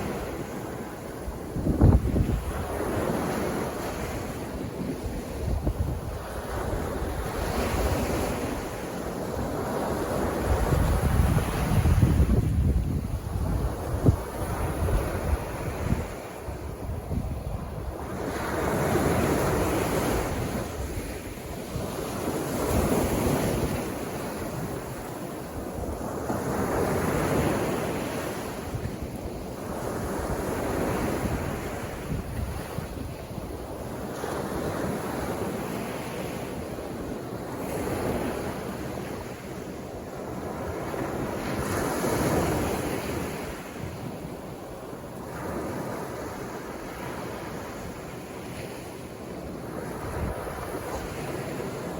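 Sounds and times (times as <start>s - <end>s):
sea waves breaking on a beach: 0.0s - 51.9s.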